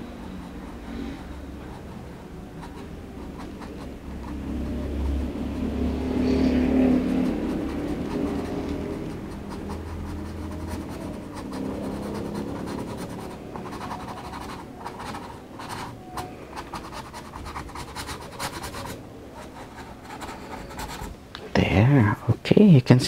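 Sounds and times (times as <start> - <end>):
brush dabbing paint on canvas: 0.0 - 21.1
low motor hum: 0.0 - 21.4.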